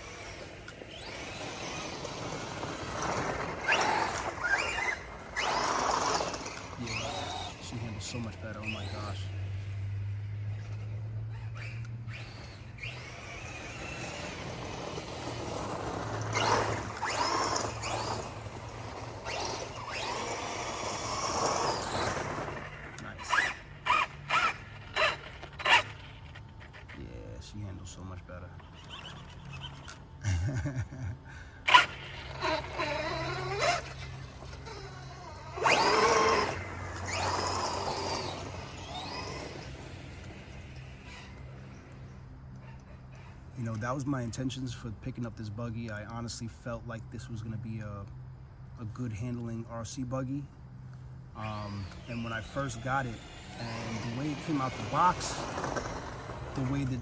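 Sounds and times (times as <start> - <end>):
electric motor whining: 0.0 - 27.1, 28.4 - 30.2, 31.6 - 43.5, 51.3 - 57.0
tyre and drivetrain rush: 0.0 - 30.2, 31.2 - 44.9, 50.8 - 57.0.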